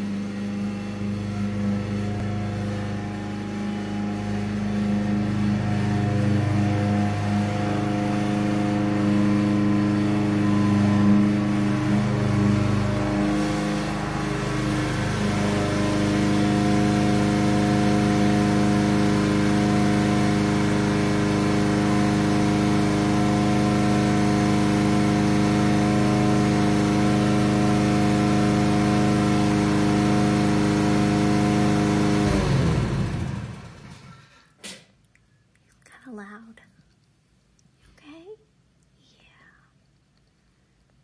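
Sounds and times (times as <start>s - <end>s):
lawn mower engine running: 0.0s - 34.4s.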